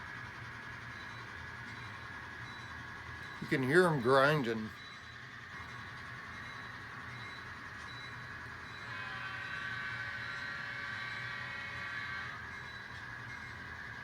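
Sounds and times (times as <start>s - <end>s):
model train wheels grinding whine: 0.0s - 14.0s.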